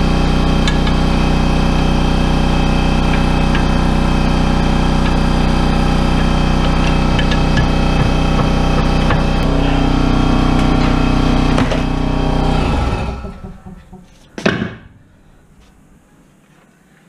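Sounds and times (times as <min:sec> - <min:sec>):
machine motor humming: 0:00.0 - 0:16.1.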